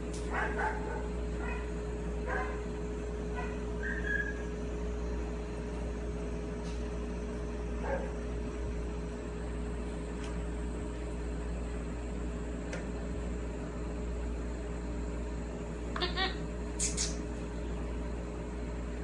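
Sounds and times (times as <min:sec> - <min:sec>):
appliance humming: 0:00.0 - 0:19.0.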